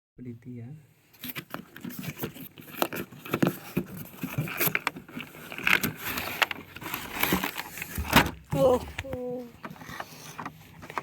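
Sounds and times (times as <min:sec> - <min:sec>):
cardboard and plastic packaging rustling: 0:01.1 - 0:11.0.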